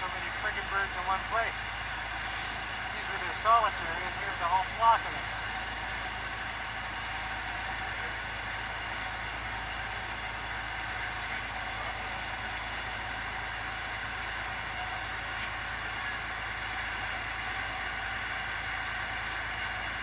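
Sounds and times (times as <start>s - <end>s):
boat engine running: 0.0s - 20.0s
constant hiss: 0.0s - 20.0s.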